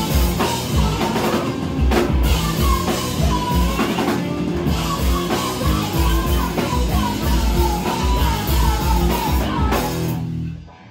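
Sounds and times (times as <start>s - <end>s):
singer yelling: 0.0s - 10.2s
pounding drum kit: 0.0s - 10.7s
distorted electric guitars: 0.0s - 10.9s.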